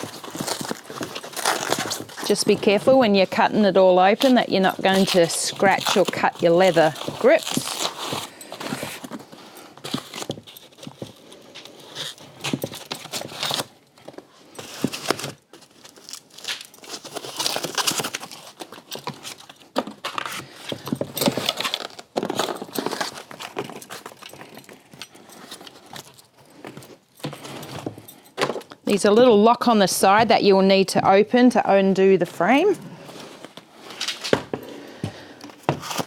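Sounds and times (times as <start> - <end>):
plastic packaging crinkling: 0.0 - 28.9.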